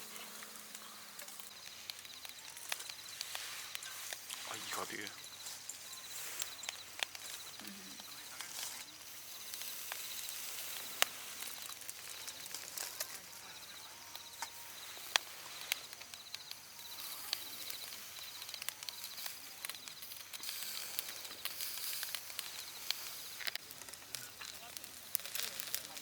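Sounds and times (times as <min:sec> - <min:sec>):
insect trilling: 0:00.0 - 0:26.0
steady high hiss: 0:00.0 - 0:26.0.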